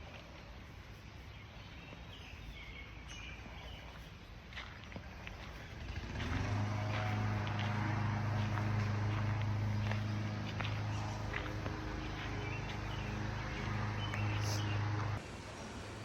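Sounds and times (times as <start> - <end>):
outdoor background rumble: 0.0 - 16.0
engine low drone: 2.5 - 16.0.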